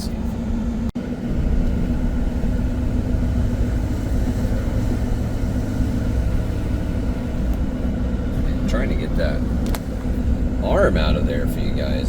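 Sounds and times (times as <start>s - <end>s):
car engine rumbling in cabin: 0.0s - 12.0s.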